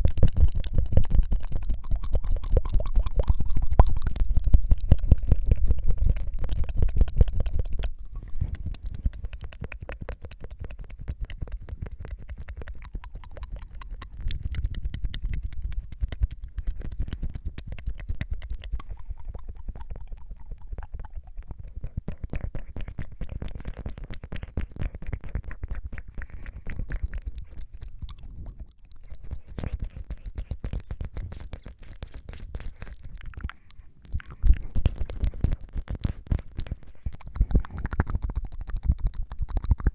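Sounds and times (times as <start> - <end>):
tiny wet mouth clicks: 0.0 - 39.9
tongue fluttering: 0.0 - 39.9.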